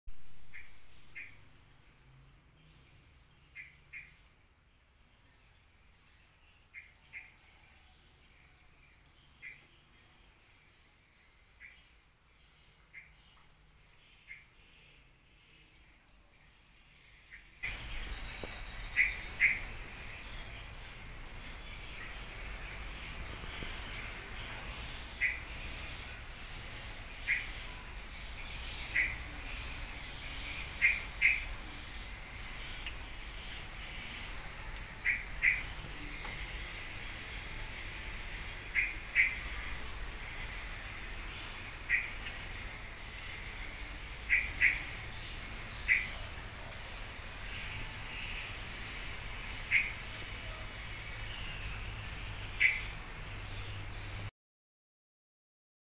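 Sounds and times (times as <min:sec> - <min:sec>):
bird chirping: 0:00.1 - 0:54.3
insects trilling: 0:00.1 - 0:54.3.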